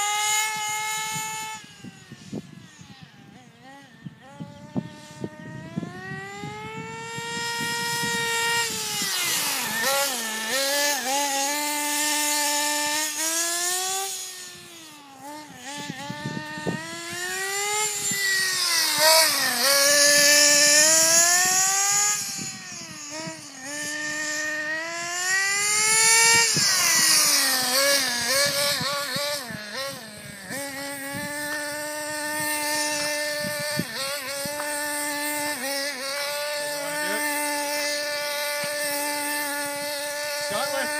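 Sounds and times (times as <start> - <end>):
nitro engine whining: 0.0 - 40.9.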